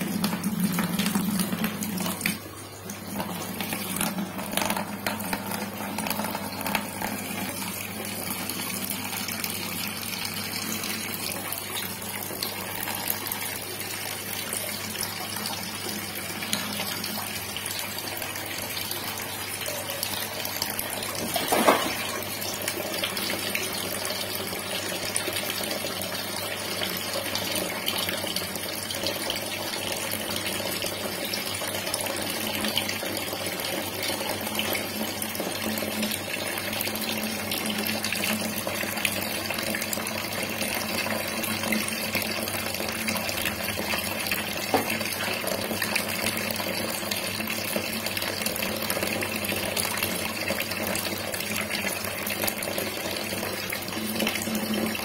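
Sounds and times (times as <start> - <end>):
water running and splashing: 0.0 - 55.0.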